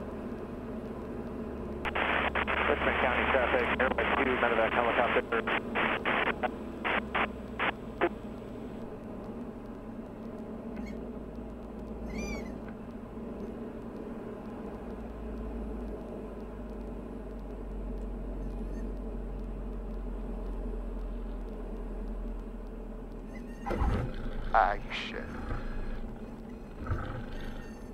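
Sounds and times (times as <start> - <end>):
plane engine and propeller drone: 0.0 - 27.9.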